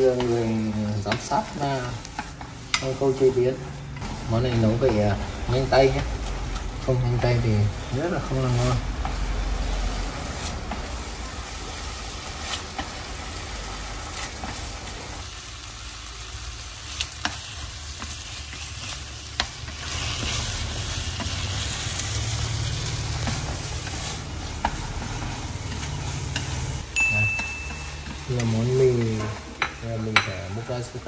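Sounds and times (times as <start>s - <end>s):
noodles sizzling in a frying pan: 0.0s - 31.0s
scraping and stirring noodles: 0.0s - 31.0s.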